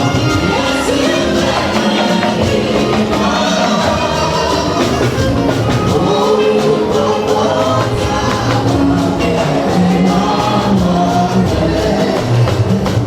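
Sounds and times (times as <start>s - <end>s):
drums and instruments: 0.0s - 13.0s
group singing gospel: 0.0s - 13.0s.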